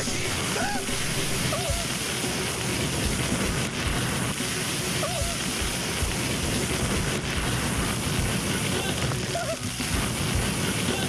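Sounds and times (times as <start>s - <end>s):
oil fire roaring: 0.0s - 11.0s.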